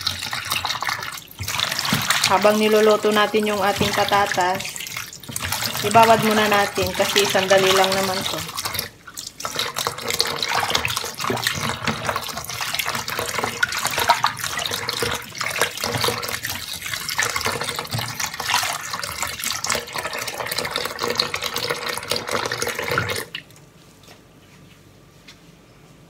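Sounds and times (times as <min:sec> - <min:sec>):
tap water splashing in sink: 0:00.0 - 0:23.5.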